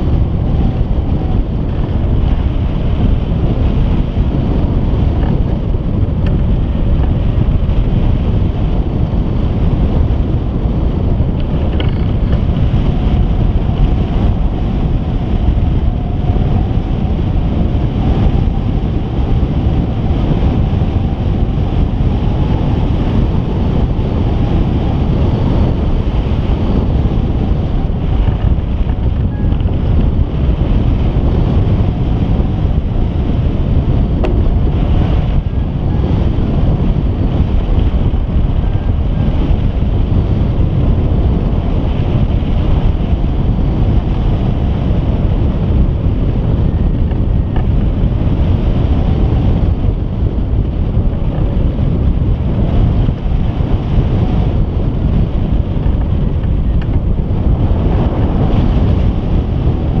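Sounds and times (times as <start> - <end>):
wind rushing over microphone: 0.0 - 60.0.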